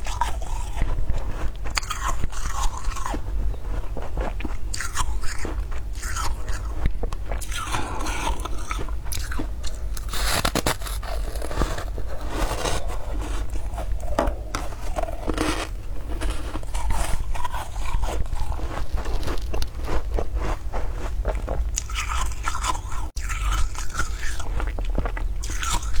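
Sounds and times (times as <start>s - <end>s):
chewing crunchy frost: 0.0s - 26.0s.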